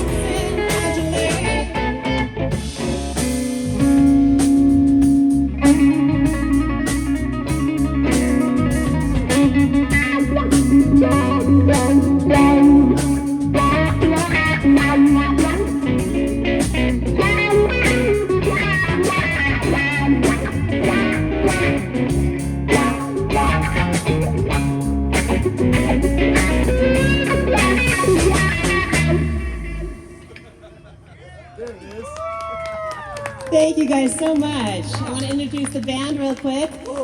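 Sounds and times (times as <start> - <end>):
bass guitar: 0.0 - 30.7
electric guitar lead: 0.0 - 30.8
drums: 0.0 - 31.1.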